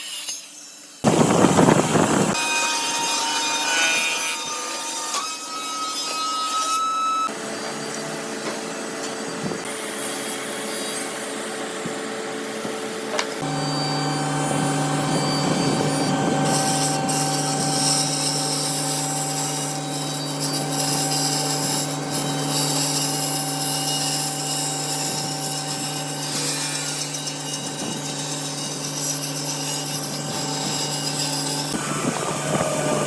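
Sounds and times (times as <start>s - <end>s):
power tool cutting wood: 1.0s - 33.0s.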